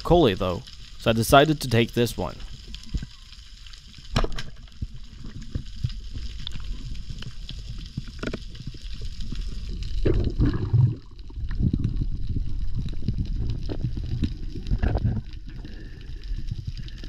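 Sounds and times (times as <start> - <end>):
faint crackling haze: 0.0 - 17.0
underwater churn of water: 2.3 - 17.0.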